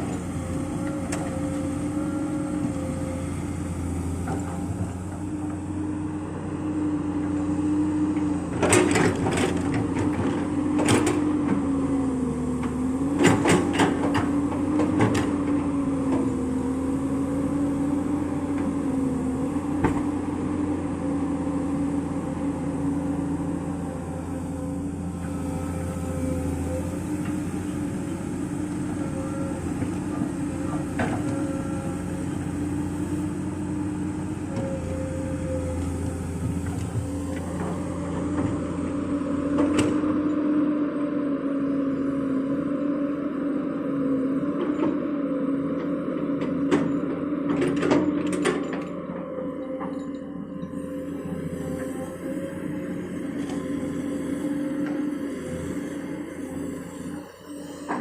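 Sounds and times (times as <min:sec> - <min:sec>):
excavator engine droning: 0:00.0 - 0:58.0.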